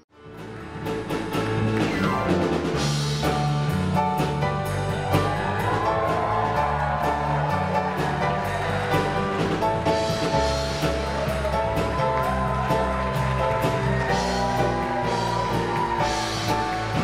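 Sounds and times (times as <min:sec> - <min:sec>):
upbeat music with drums and bass: 0:00.2 - 0:17.0.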